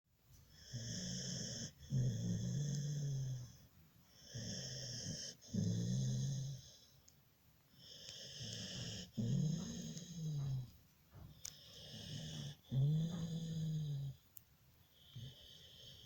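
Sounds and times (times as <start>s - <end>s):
dog snoring: 0.5s - 7.0s, 7.8s - 14.2s, 14.9s - 16.0s.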